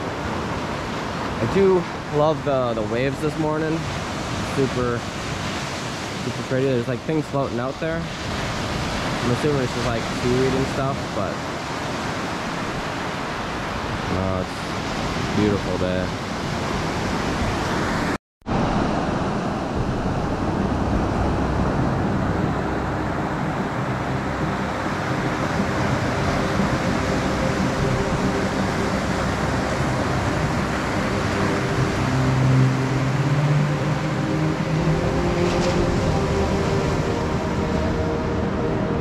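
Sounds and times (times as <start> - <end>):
ocean surf washing ashore: 0.0 - 39.0.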